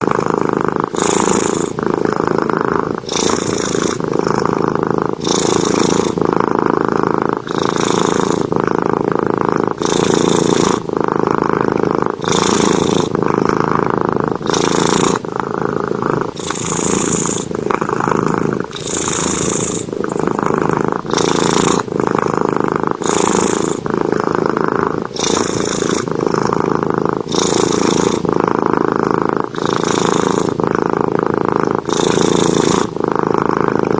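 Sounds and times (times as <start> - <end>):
cat snoring loudly: 0.0 - 33.9.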